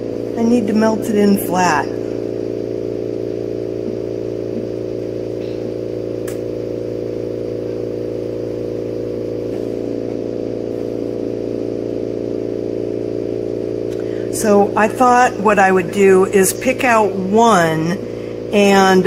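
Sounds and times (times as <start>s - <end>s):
mechanical hum with low tones: 0.0s - 19.0s.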